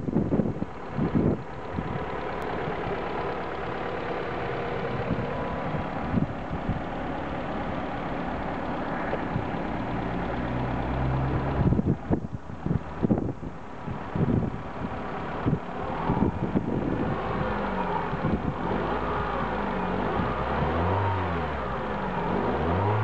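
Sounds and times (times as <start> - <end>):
car engine idling: 0.0 - 23.0
engine knocking: 0.2 - 23.0.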